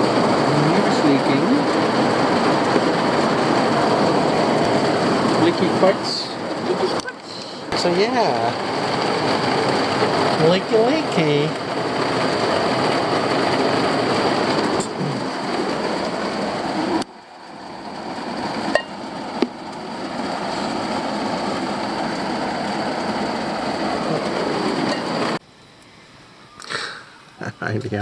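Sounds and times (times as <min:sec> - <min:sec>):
heavy rain drumming on roof: 0:00.0 - 0:25.4.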